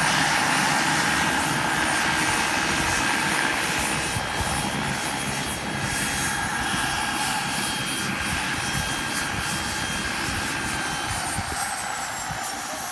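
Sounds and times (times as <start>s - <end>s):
model helicopter engine whine: 0.0s - 12.9s.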